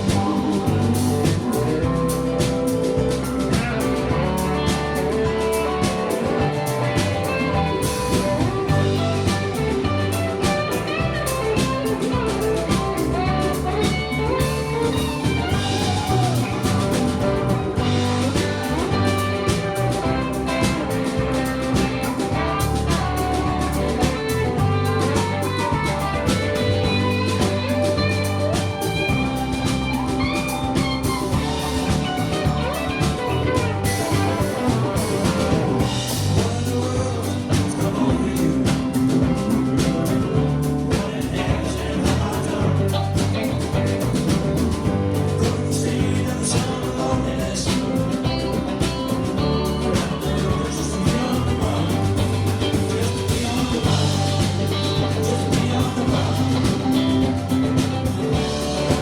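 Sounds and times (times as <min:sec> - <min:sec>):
drum kit steady beat: 0:00.0 - 0:59.0
guitar lines: 0:00.0 - 0:59.0
sustained bass notes: 0:00.0 - 0:59.0.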